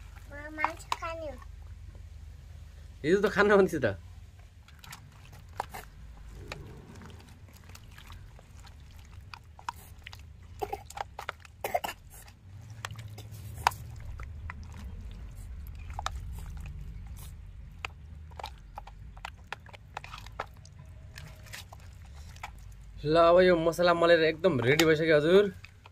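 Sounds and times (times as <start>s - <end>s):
low steady rumble: 0.0s - 25.9s
hand squelching wet marinade: 4.3s - 25.9s.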